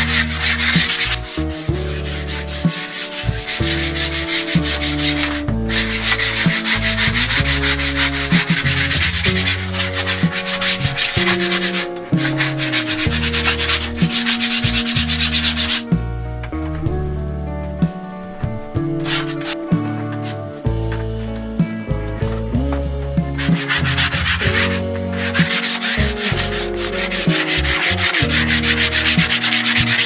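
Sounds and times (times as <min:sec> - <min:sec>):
background music with held notes: 0:00.0 - 0:30.0
rhythmic scraping by hand: 0:00.0 - 0:30.0.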